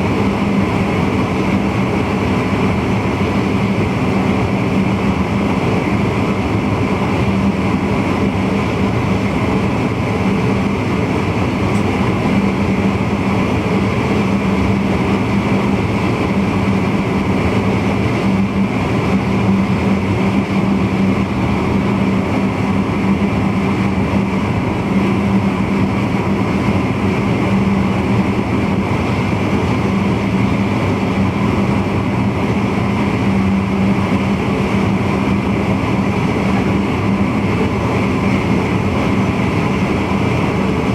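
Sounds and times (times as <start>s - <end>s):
steady hum: 0.0s - 40.9s
train rolling rumble: 0.0s - 40.9s.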